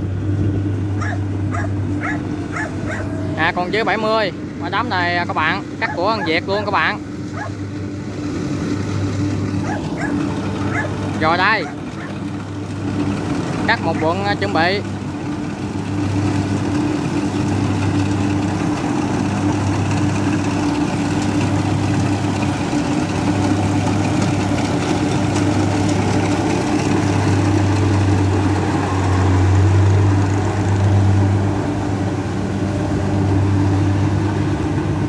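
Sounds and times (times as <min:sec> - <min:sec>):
combine harvester diesel engine drone: 0:00.0 - 0:35.0
mechanical cutting and threshing noise: 0:00.7 - 0:35.0.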